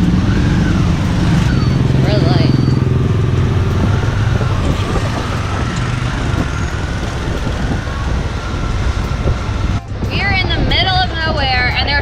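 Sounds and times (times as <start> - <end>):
scooter engine drone: 0.0 - 12.0
wind and road noise: 0.0 - 12.0.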